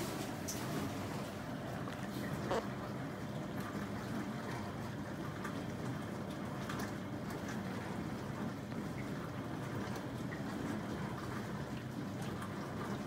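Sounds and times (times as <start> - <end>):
dishwasher running: 0.0 - 13.0.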